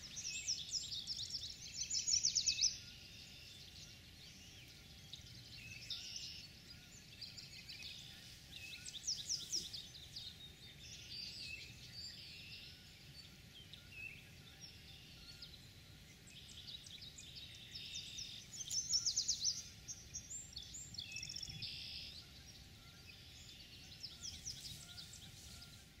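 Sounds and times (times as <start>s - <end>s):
songbirds singing and chirping: 0.0s - 26.0s.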